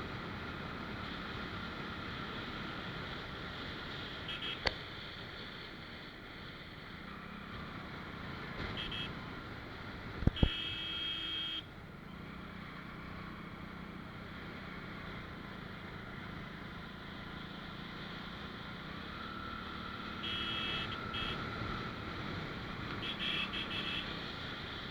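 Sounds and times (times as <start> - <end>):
motorcycle engine hum: 0.0 - 24.9
road noise: 0.0 - 24.9.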